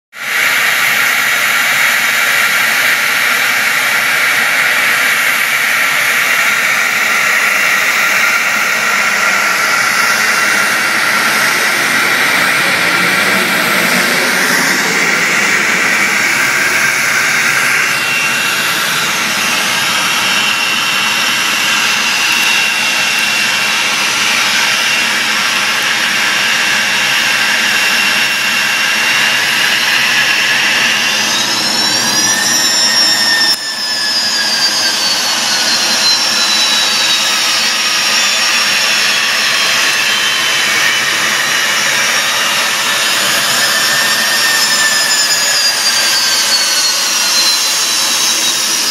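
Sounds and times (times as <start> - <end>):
jet engines whining: 0.2 - 48.9
jet taking off: 0.2 - 48.9.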